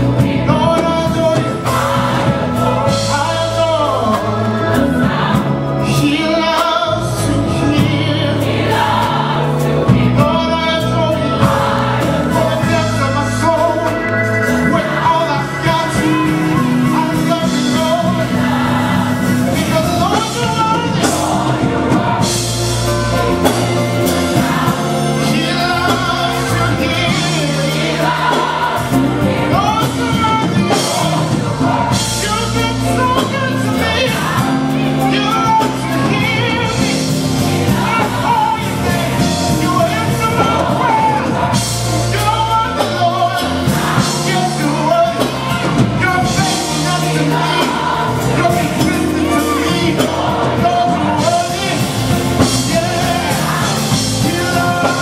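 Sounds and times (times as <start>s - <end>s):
gospel song with choir and band: 0.0s - 55.0s.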